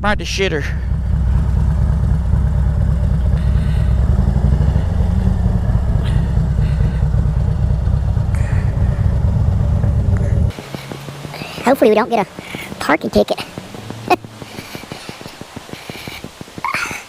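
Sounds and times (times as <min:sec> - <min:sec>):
motorcycle engine running at low revs: 0:00.4 - 0:17.0.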